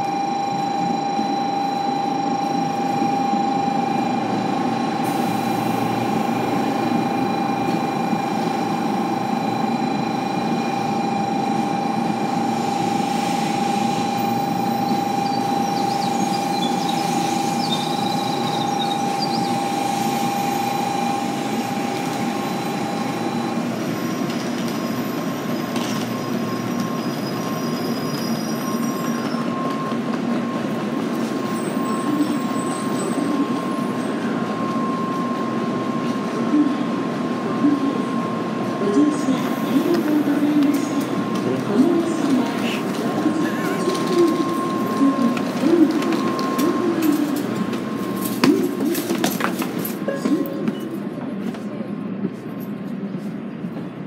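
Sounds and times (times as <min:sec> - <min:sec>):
train electrical hum: 0:00.0 - 0:54.0.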